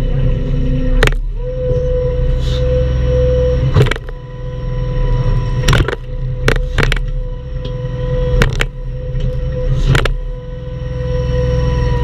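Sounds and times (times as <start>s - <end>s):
diesel engine running with whine: 0.0s - 12.0s.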